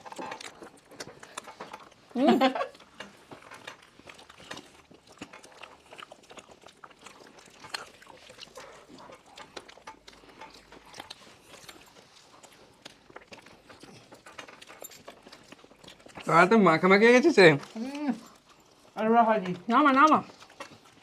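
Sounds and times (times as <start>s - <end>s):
biting and chewing cake: 0.0s - 21.0s.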